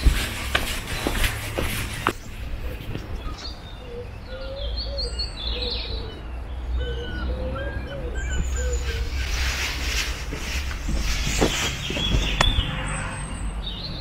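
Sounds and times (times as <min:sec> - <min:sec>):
birds singing and chirping: 0:00.0 - 0:14.0.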